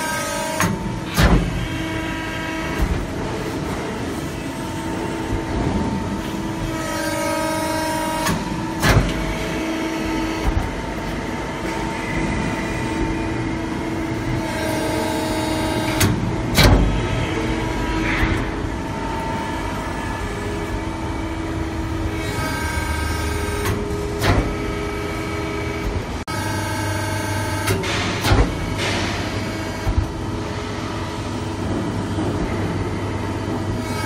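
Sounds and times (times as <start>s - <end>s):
hydraulic pump motor humming: 0.0s - 34.0s.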